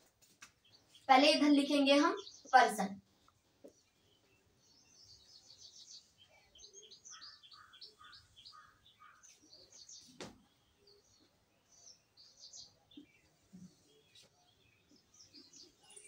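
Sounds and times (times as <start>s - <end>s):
small birds chirping faintly: 0.0s - 16.0s.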